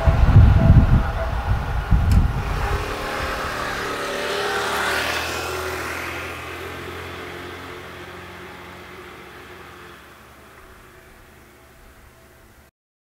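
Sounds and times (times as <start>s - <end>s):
passing vehicle engine hum: 0.0s - 12.7s.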